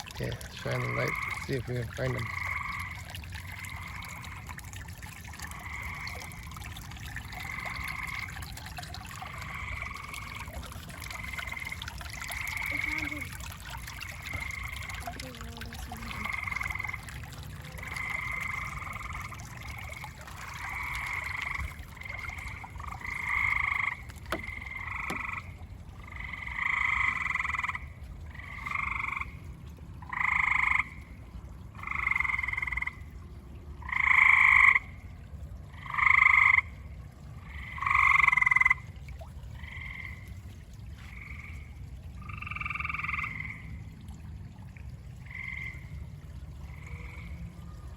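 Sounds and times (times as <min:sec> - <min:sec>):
frogs trilling: 0:00.0 - 0:29.4, 0:30.0 - 0:31.1, 0:31.8 - 0:33.0, 0:33.8 - 0:35.0, 0:35.7 - 0:36.8, 0:37.4 - 0:38.8, 0:39.6 - 0:40.3, 0:42.2 - 0:43.7, 0:45.2 - 0:46.0, 0:46.6 - 0:47.5.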